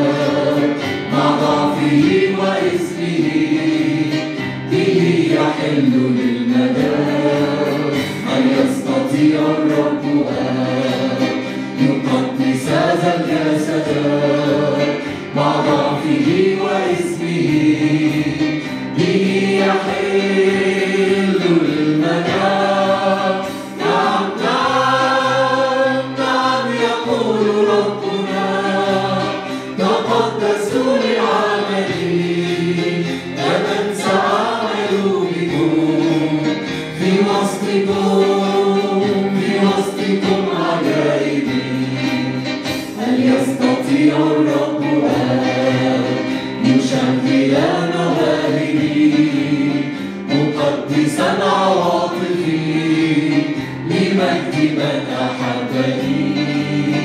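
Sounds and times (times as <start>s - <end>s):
keyboard: 0.0s - 57.0s
men and women singing a hymn: 0.0s - 57.0s.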